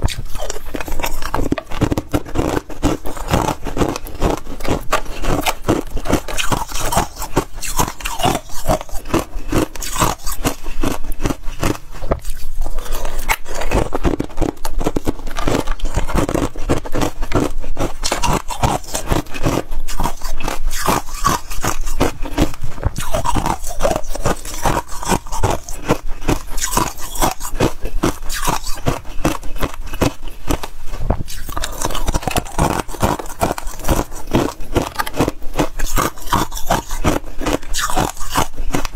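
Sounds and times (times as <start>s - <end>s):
freezer frost crunching and scraping: 0.0s - 38.9s.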